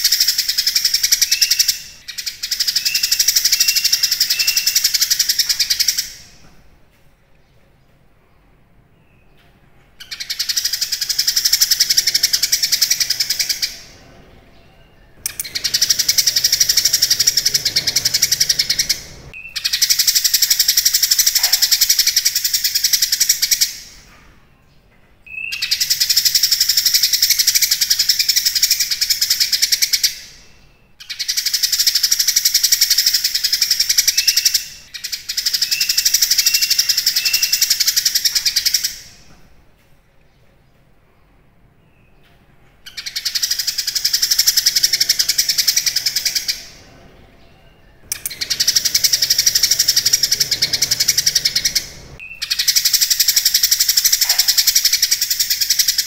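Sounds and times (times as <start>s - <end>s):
caged bird singing chattering song: 0.0s - 6.6s, 7.3s - 39.3s, 40.3s - 56.0s.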